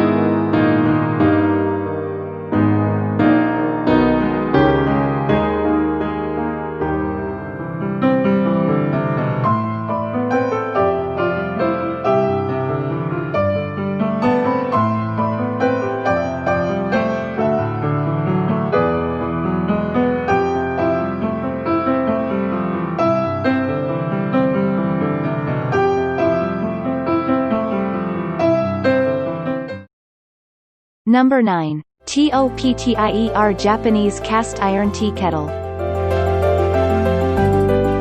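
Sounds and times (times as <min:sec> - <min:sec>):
gentle piano piece: 0:00.0 - 0:29.9, 0:32.4 - 0:38.0.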